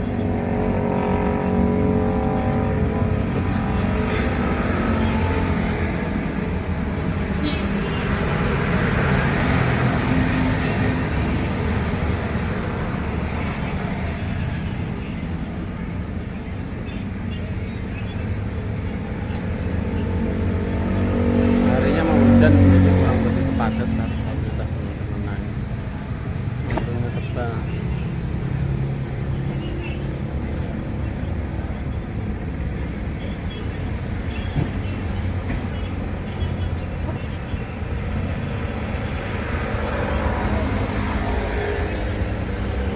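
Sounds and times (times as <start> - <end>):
vehicle engine hum: 0.0 - 42.9.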